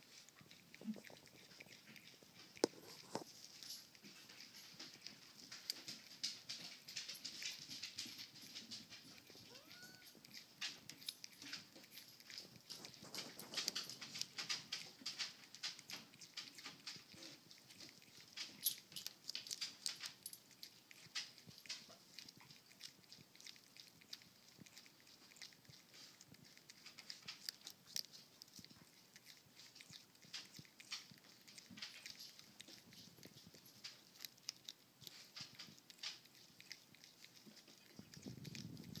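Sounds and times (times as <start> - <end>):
animal crunching a carrot: 0.0 - 39.0.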